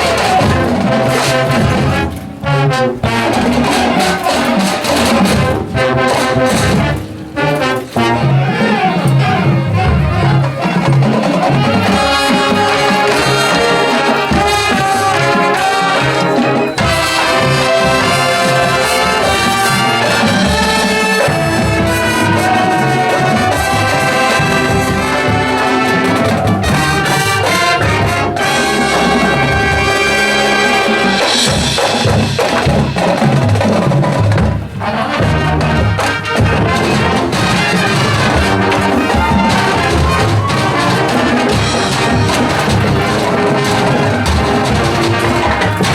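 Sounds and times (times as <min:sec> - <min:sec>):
marching band brass and percussion: 0:00.0 - 0:45.9.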